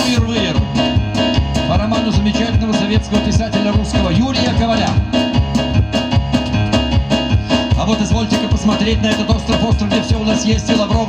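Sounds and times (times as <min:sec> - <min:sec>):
cajon beat: 0:00.0 - 0:11.0
electric keyboard: 0:00.0 - 0:11.0
upright double bass: 0:00.0 - 0:11.0.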